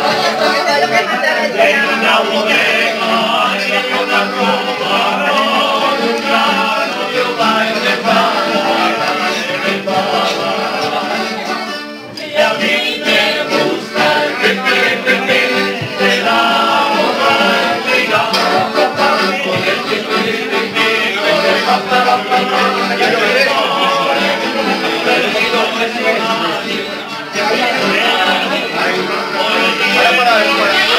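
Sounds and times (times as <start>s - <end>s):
accordion: 0.0s - 30.9s
group singing together: 0.0s - 30.9s
guitar: 0.0s - 30.9s.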